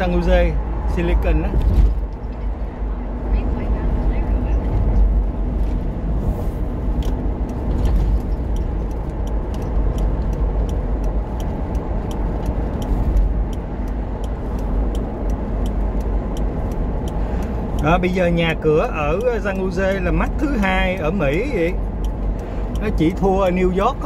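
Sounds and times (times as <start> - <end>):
road and engine rumble: 0.0 - 24.0
light regular ticking: 2.0 - 24.0.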